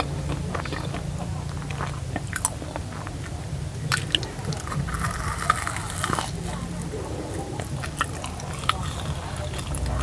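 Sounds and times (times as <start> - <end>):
chewing soft food: 0.0 - 10.0
steady low hum: 0.0 - 10.0.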